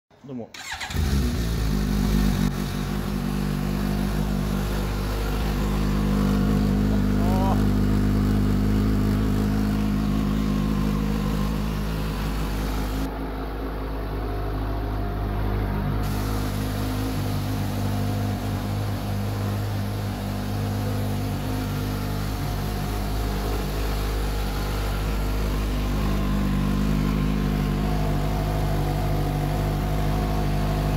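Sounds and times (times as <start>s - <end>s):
motorcycle engine idling: 0.6s - 30.9s.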